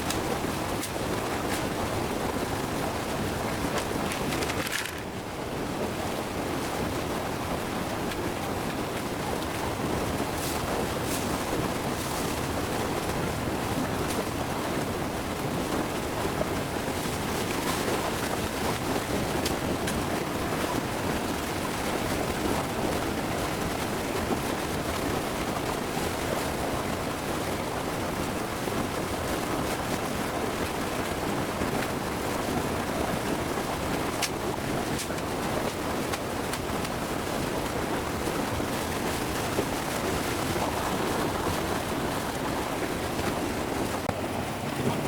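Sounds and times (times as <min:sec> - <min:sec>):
stream water rushing: 0:00.0 - 0:45.0.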